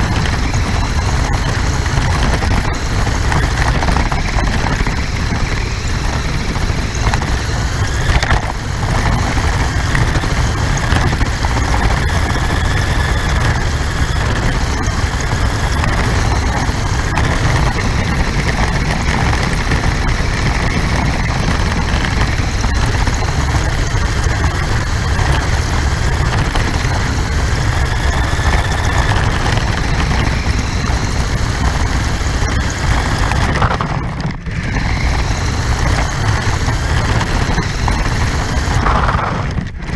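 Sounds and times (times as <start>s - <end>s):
rc car motor rumble and whine: 0.0s - 39.9s.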